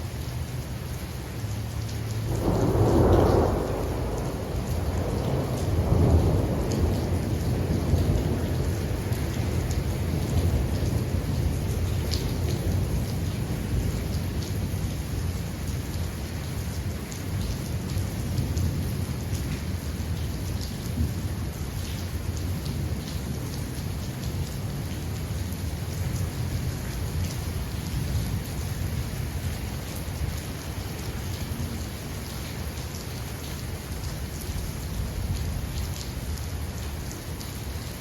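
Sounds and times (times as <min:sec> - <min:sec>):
heavy rainfall: 0:00.0 - 0:38.0
raindrops ticking on surfaces: 0:00.0 - 0:38.0
low rumble of thunder: 0:02.2 - 0:38.0.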